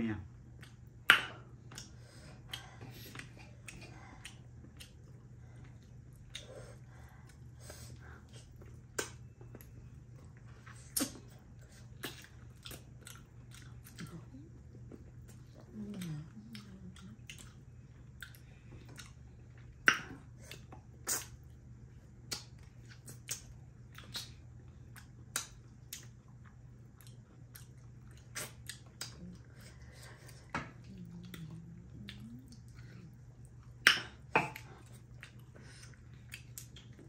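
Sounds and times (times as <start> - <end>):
wet chewing: 0.4 - 21.6, 22.2 - 37.0
lip smacks: 0.6 - 7.4, 8.0 - 14.1, 18.2 - 21.6, 22.2 - 26.4, 27.0 - 29.5, 30.2 - 37.0.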